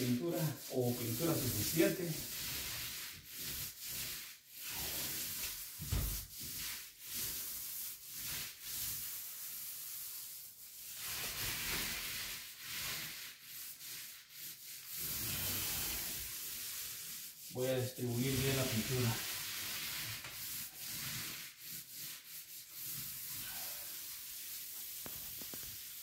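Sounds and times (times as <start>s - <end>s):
paint roller rubbing on wall: 0.0s - 26.0s.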